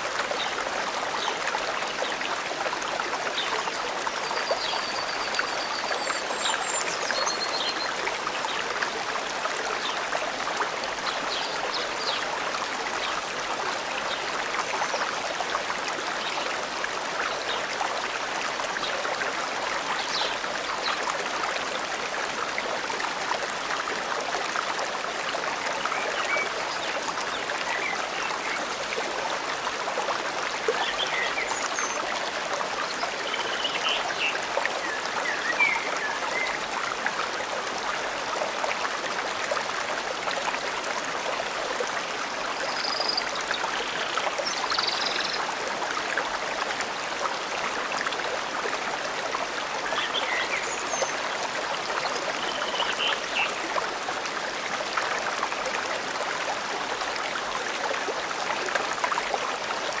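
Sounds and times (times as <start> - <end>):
stream water flowing: 0.0 - 60.0.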